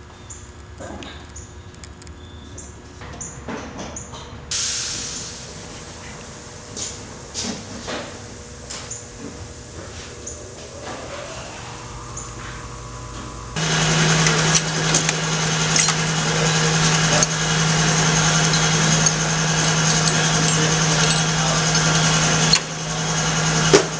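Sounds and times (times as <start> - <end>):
machine humming and hissing: 4.5 - 23.9.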